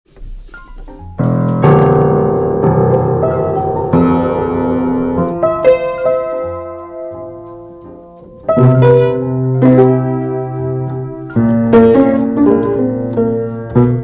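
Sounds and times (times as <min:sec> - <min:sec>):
piano chords: 0:00.3 - 0:14.0.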